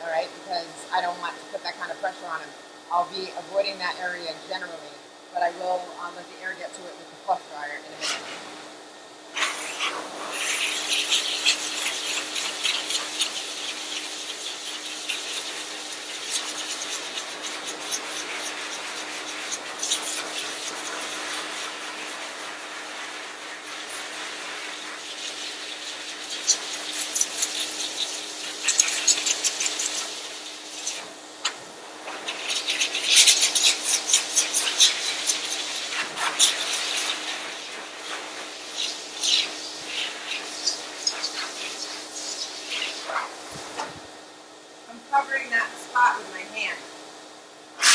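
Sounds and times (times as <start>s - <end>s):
dryer air rushing: 0.0s - 47.9s
dryer motor hum: 0.0s - 47.9s.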